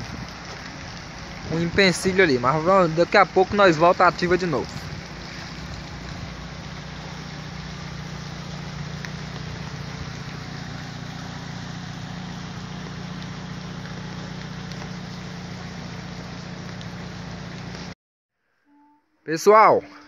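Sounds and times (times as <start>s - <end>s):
car engine idling: 0.0s - 17.9s
rain falling: 0.0s - 18.0s.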